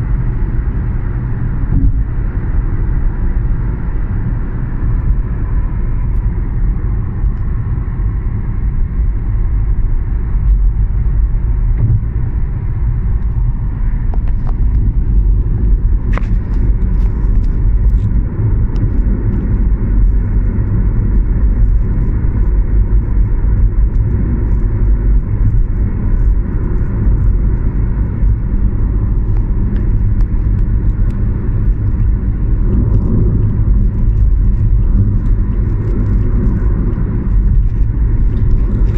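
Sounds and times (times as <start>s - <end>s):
train rumble inside carriage: 0.0s - 38.9s.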